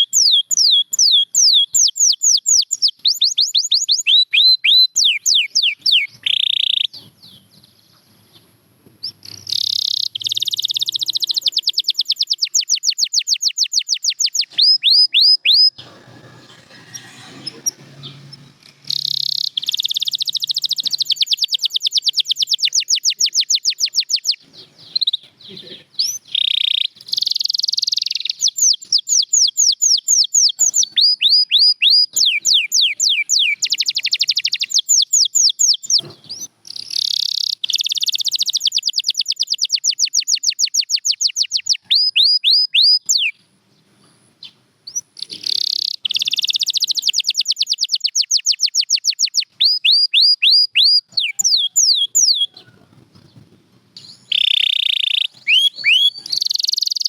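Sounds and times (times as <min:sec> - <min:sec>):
canary singing trills: 0:00.0 - 0:43.4, 0:44.1 - 0:57.0.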